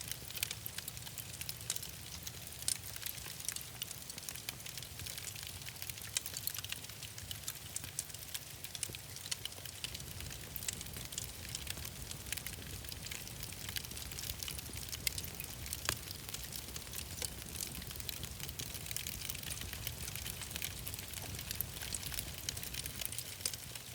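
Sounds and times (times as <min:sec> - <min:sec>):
sharp pops and snaps: 0:00.0 - 0:23.9
wood fire crackling: 0:00.0 - 0:23.9.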